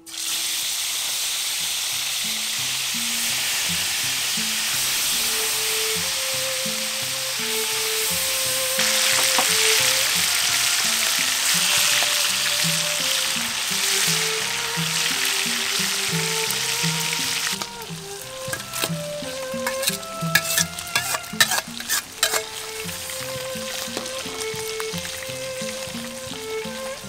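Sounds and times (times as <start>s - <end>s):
fish deep-frying in oil: 0.0s - 26.9s
background music with melody: 2.8s - 27.0s.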